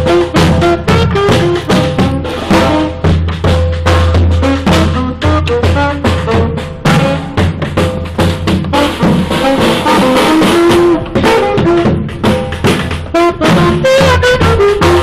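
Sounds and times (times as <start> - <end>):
drum kit with bass drum: 0.0 - 15.0
horns and saxophone: 0.0 - 15.0.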